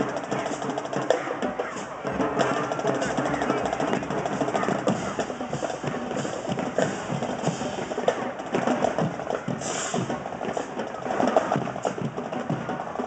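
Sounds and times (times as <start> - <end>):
drumline playing fast cadence: 0.0 - 13.0.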